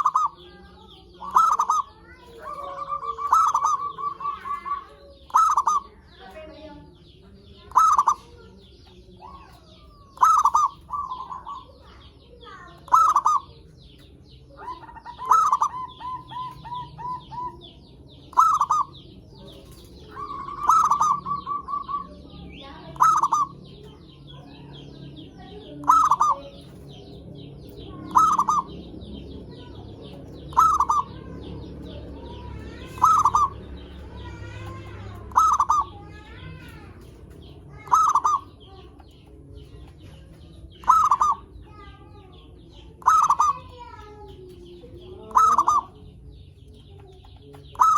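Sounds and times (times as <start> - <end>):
dove cooing: 0.0 - 7.0, 7.6 - 8.5, 9.2 - 46.2, 47.6 - 47.9
small birds chirping: 0.0 - 47.9.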